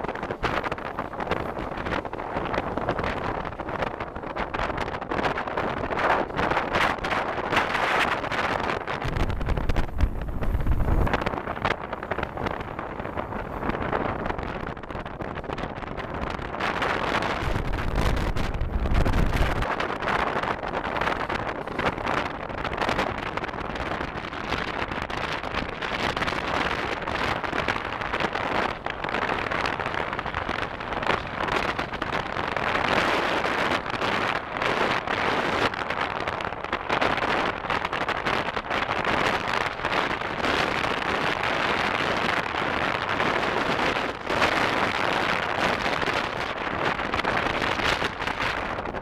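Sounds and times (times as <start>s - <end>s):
wind noise on microphone: 0.0s - 49.0s.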